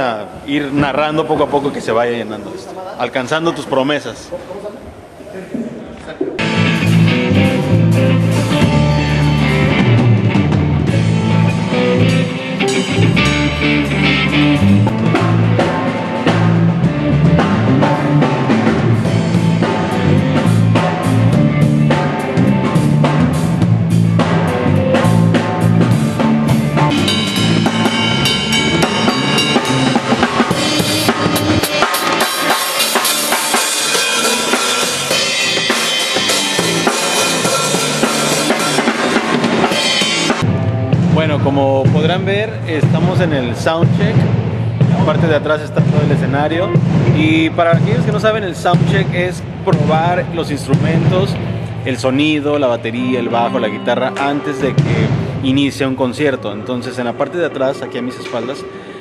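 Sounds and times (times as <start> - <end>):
bass guitar notes: 6.2 - 59.0
drum kit playing a beat: 6.4 - 55.8.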